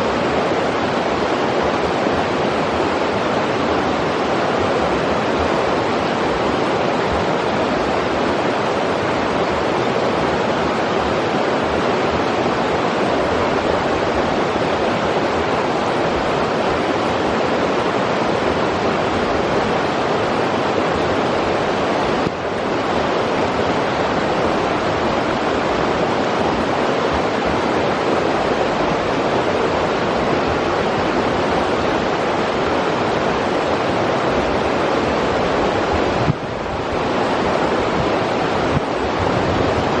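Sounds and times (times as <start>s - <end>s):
river rushing over rocks: 0.0s - 40.0s.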